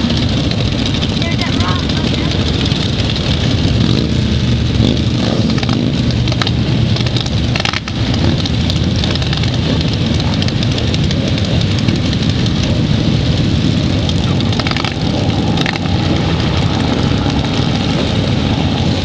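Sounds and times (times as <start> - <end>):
motorcycles riding past: 0.0 - 19.0.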